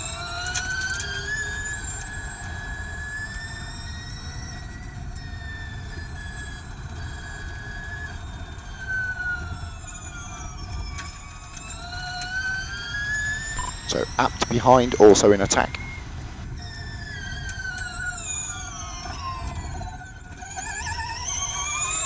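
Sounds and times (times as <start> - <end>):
electric race car motor whine: 0.0 - 22.0.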